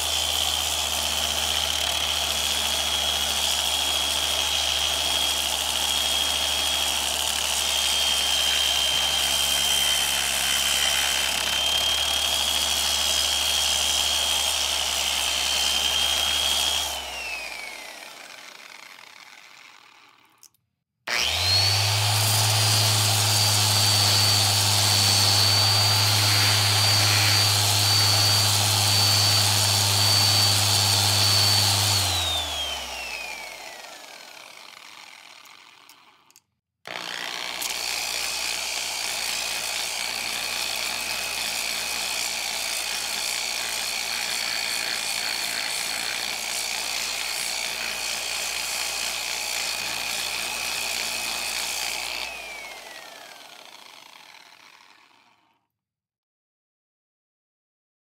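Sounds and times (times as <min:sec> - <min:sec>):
electric sander whining: 0:00.0 - 0:20.5, 0:21.1 - 0:55.3.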